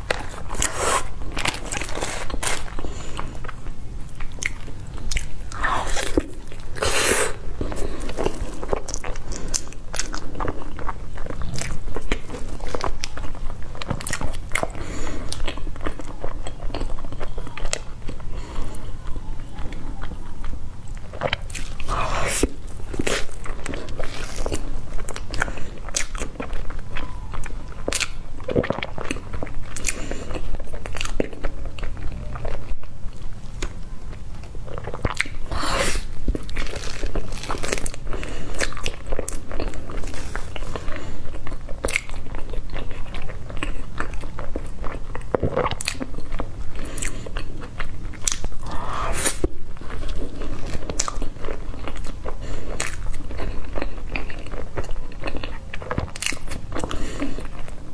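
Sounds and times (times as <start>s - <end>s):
person chewing crunchy food: 0.0s - 19.0s, 19.6s - 57.9s.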